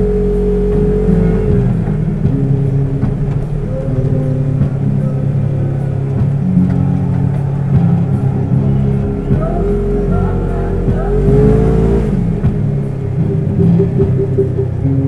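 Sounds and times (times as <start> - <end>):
utv engine revving: 0.0 - 15.0.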